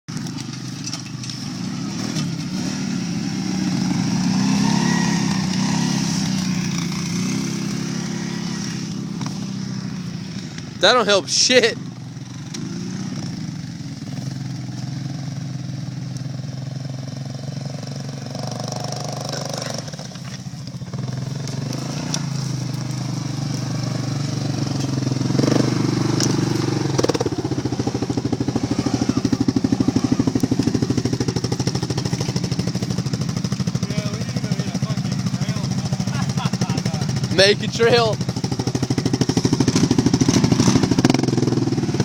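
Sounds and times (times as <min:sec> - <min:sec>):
atv engine running: 0:00.1 - 0:42.0.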